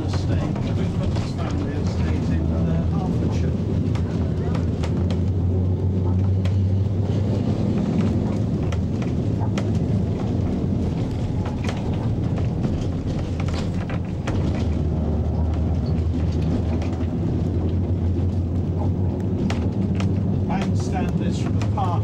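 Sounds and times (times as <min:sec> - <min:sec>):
tram motor hum: 0:00.0 - 0:22.0
tram wheels clicking and rattling: 0:00.0 - 0:22.0.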